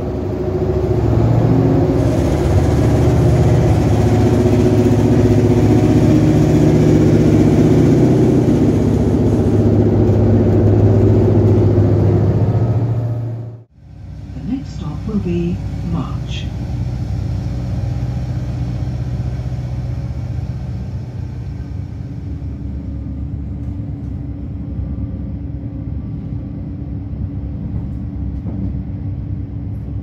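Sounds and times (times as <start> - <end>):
diesel engines droning: 0.0 - 30.0.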